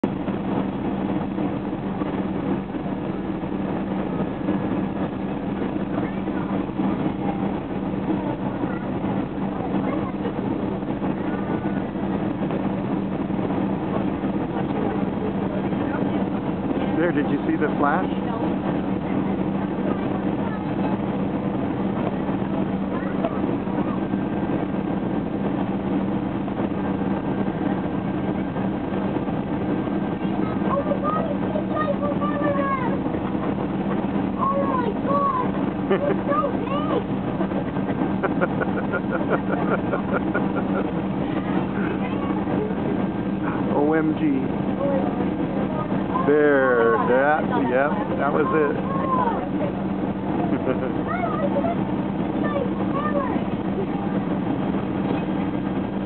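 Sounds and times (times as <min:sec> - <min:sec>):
airliner engines droning: 0:00.0 - 0:56.0
low cabin hum: 0:00.0 - 0:56.0.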